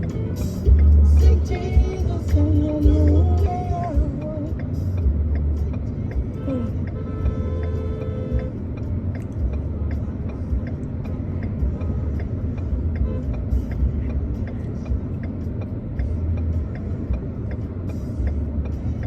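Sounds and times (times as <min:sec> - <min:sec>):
car engine and road rumble: 0:00.0 - 0:19.0
sharp ticks: 0:00.0 - 0:19.0.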